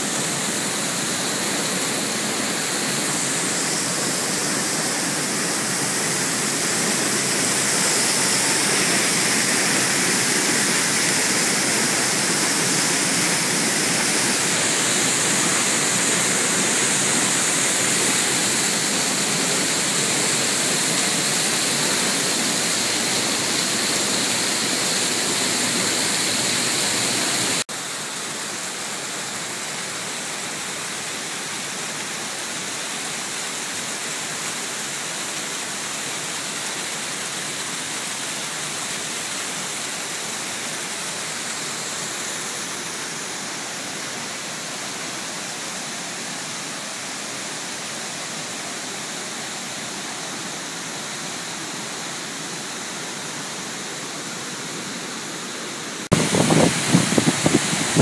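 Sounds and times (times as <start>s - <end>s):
small water cascade: 0.0s - 58.0s
waterfall crashing: 0.0s - 58.0s.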